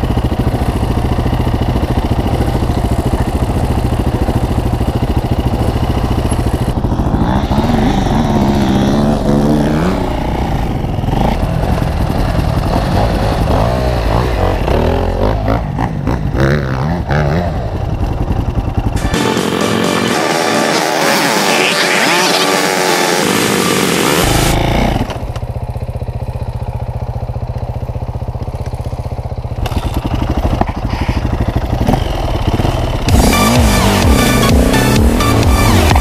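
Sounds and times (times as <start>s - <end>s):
dirt bike engine revving: 0.0s - 25.4s, 29.6s - 36.0s.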